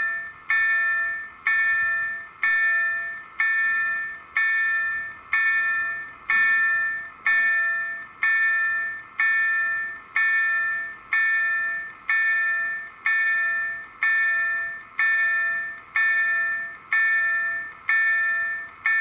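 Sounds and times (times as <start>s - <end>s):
level-crossing bells ringing: 0.0s - 19.0s.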